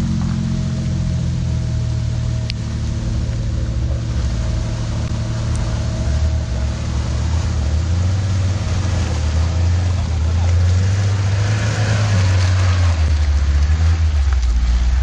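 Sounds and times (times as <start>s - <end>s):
vehicle engine at low revs: 0.0s - 15.0s
rain hiss: 0.5s - 15.0s.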